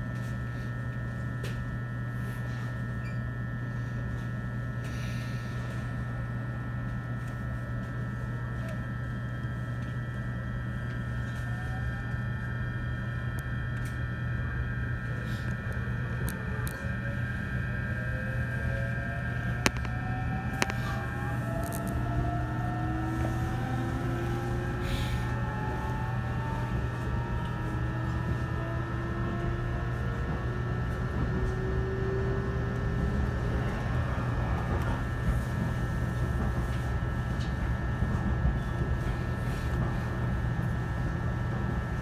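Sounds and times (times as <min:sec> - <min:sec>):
electric train motor whine: 0:00.0 - 0:42.0
faint high hum: 0:00.0 - 0:42.0
train running rumble: 0:00.0 - 0:42.0.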